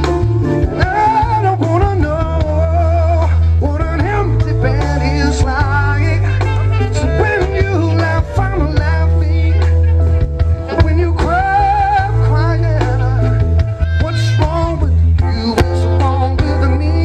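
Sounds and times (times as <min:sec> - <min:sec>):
band music: 0:00.0 - 0:17.0
heavy bass line: 0:00.0 - 0:17.0
male lead vocal: 0:00.0 - 0:17.0.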